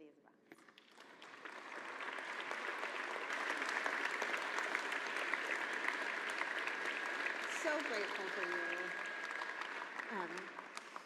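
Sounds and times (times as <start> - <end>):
audience applause: 0.8 - 11.0.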